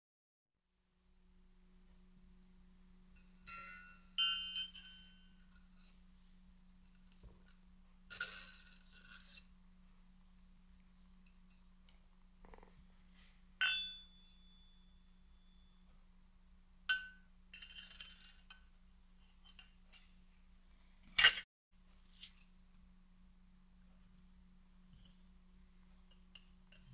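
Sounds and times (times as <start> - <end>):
steady low hum: 0.7 - 26.9.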